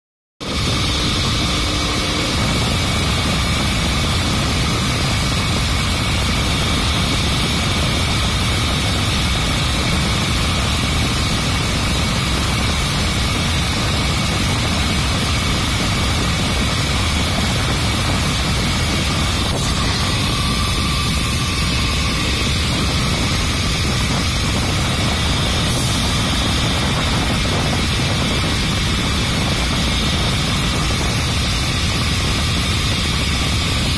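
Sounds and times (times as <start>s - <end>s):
tube cutting machine whining: 0.4s - 33.9s.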